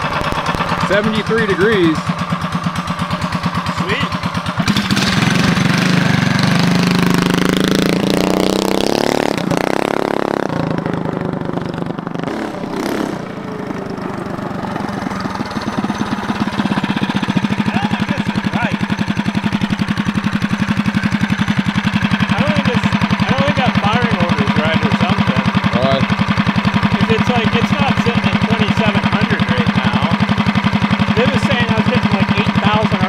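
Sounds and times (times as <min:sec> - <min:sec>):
engine revving and idling: 0:00.0 - 0:33.0.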